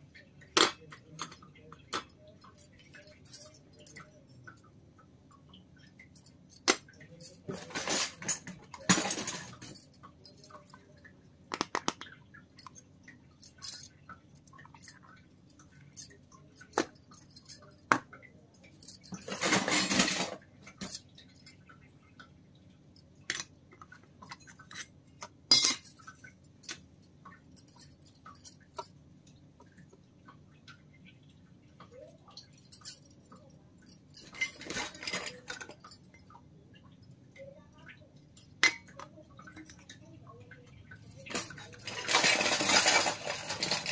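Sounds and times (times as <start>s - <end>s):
small metal utensils clinking: 0.1s - 4.8s, 5.4s - 21.8s, 23.0s - 29.0s, 31.8s - 43.9s.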